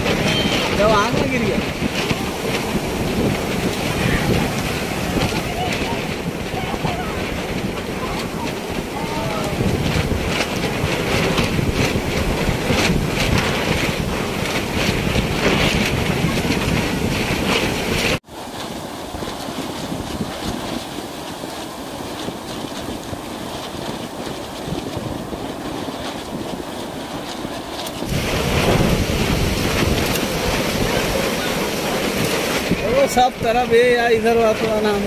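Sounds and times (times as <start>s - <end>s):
sea surf breaking: 0.0s - 35.0s
wind buffeting microphone: 0.0s - 35.0s.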